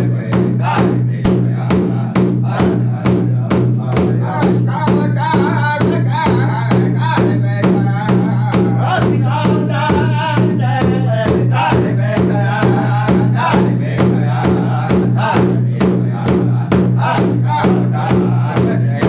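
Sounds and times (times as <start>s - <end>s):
group singing in high voices: 0.0s - 19.0s
large drum beating: 0.0s - 19.0s.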